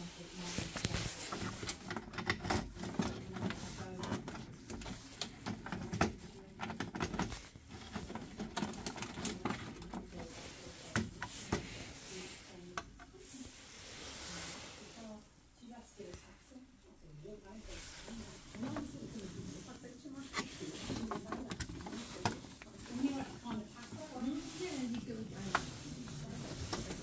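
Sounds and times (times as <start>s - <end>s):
wires rustling: 0.0s - 27.0s.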